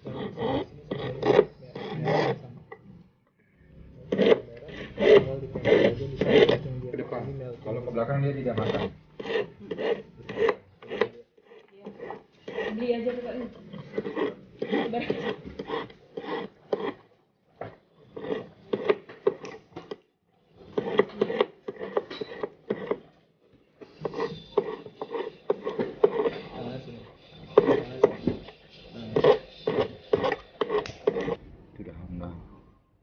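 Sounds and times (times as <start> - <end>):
hand file rasping on metal: 0.0 - 2.8, 4.0 - 23.2, 23.8 - 31.4.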